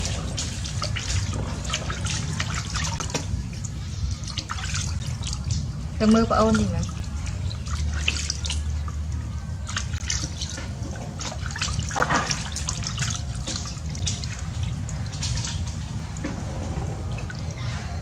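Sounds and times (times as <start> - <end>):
steady low rumble: 0.0 - 18.0
water splashing in a bathtub: 0.0 - 18.0.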